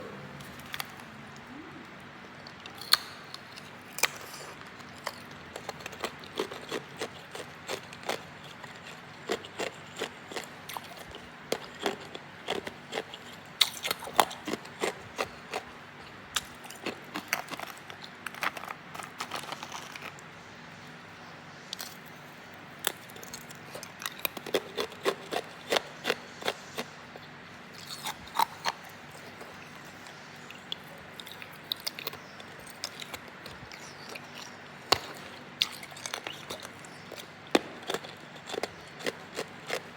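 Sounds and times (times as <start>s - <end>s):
ice being chewed: 2.3s - 20.3s, 22.7s - 39.9s.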